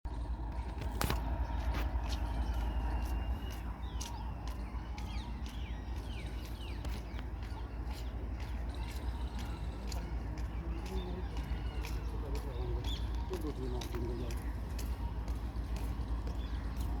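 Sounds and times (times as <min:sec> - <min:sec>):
birds chirping: 0:00.1 - 0:17.0
goods train rumble: 0:00.1 - 0:17.0
wheels clicking on rails: 0:00.1 - 0:17.0.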